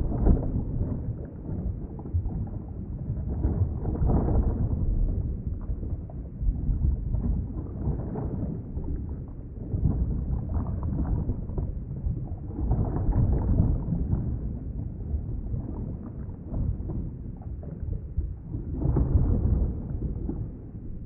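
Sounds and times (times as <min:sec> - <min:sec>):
muffled underwater water rumble: 0:00.0 - 0:21.0.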